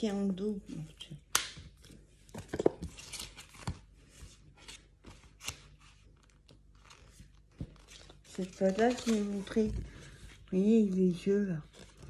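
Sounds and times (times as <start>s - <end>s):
paper and card rustling: 2.0s - 12.0s.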